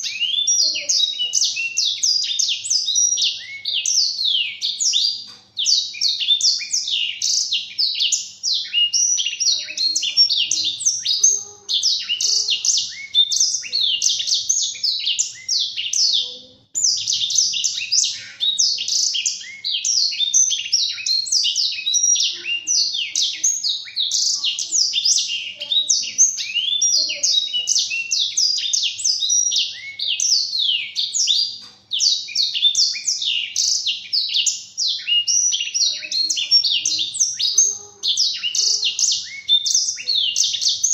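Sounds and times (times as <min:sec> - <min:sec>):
canary singing twittering song: 0:00.0 - 0:40.9.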